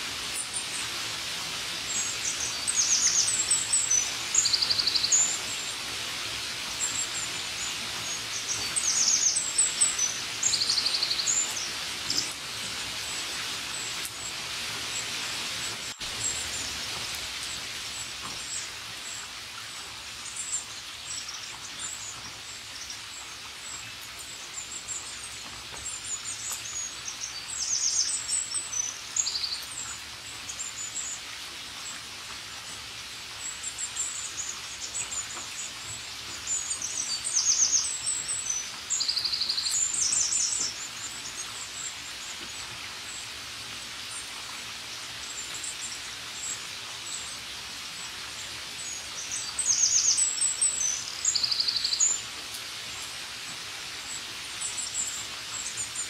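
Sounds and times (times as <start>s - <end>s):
rain falling: 0.0s - 56.0s
small birds chirping and trilling: 0.0s - 56.0s.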